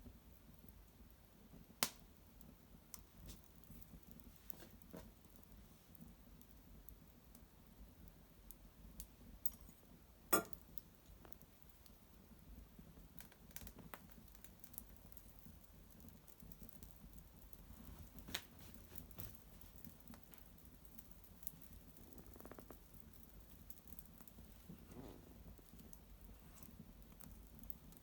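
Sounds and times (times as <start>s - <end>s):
twig fire crackling: 0.0s - 28.0s.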